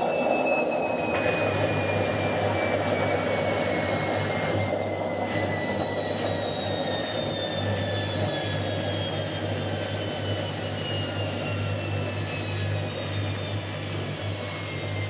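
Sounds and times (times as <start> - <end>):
motor whine: 0.0 - 15.0
washing machine spinning: 0.0 - 15.0.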